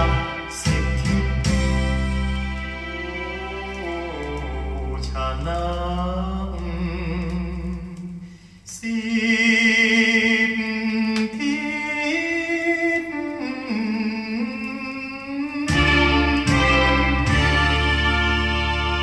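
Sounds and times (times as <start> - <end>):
song played from vinyl record: 0.0 - 19.0.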